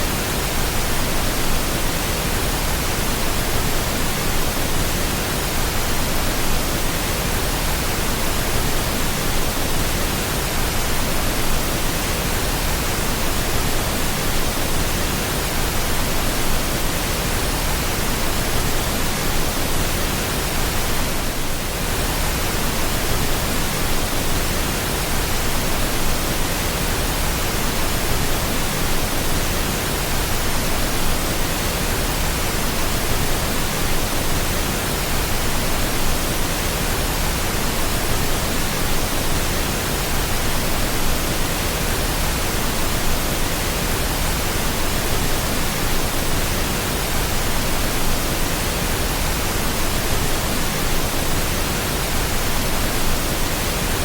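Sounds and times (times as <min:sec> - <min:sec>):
pink noise hiss with low rumble: 0:00.0 - 0:54.0.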